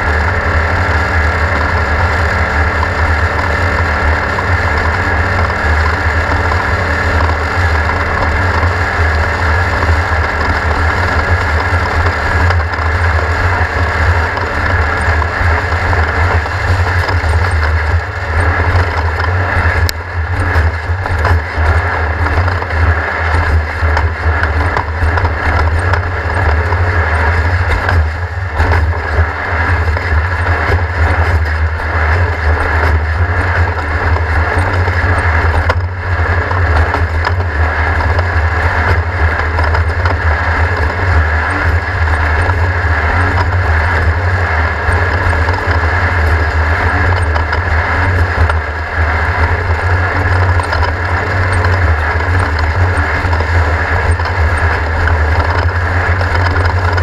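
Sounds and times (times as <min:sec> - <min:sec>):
knocks and rattles: 0:00.0 - 0:57.0
race car engine running: 0:00.0 - 0:57.0.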